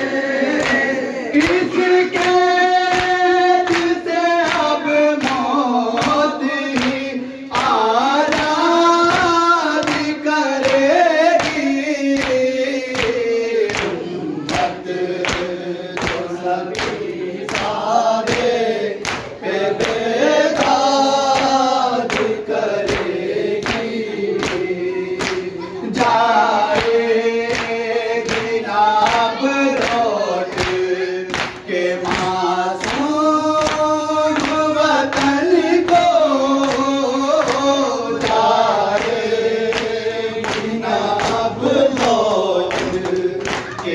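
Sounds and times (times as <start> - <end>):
men chanting a lament: 0.0 - 43.9.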